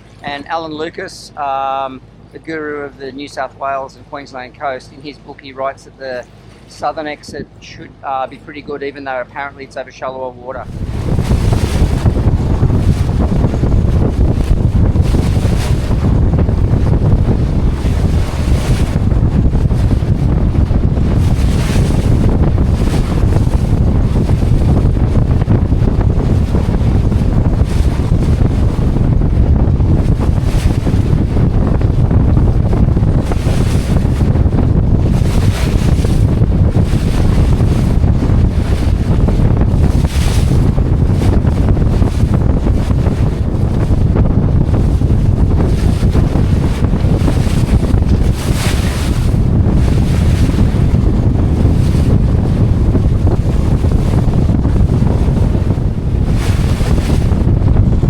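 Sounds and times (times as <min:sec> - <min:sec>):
wind buffeting microphone: 0:06.0 - 0:08.6, 0:10.5 - 0:58.0
waves washing: 0:10.5 - 0:57.7.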